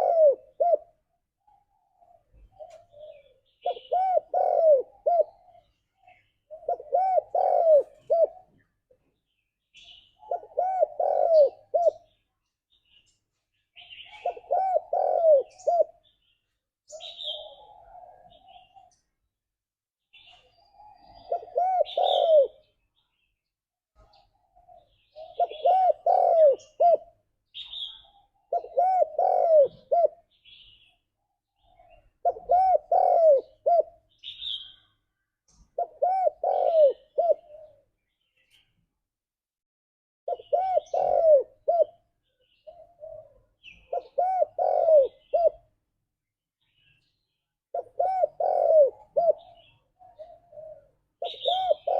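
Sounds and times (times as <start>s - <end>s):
dove cooing: 0.0s - 9.2s, 9.8s - 12.2s, 13.8s - 16.3s, 16.9s - 19.1s, 20.2s - 22.8s, 24.0s - 35.0s, 35.6s - 38.0s, 40.3s - 45.8s, 47.7s - 51.9s.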